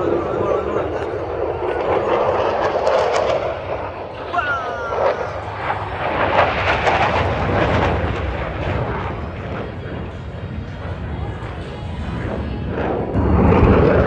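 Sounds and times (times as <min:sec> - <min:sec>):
jet engines roaring overhead: 0:00.0 - 0:14.0.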